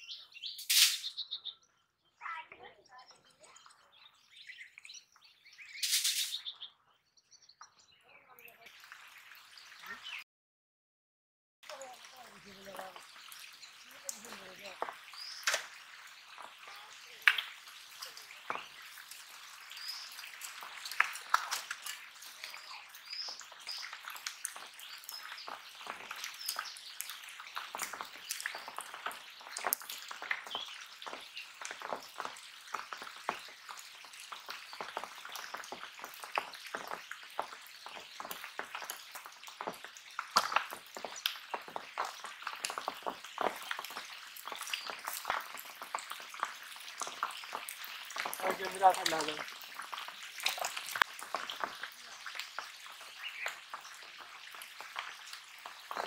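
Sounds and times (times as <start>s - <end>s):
small birds chirping: 0.0s - 10.2s, 11.6s - 56.0s.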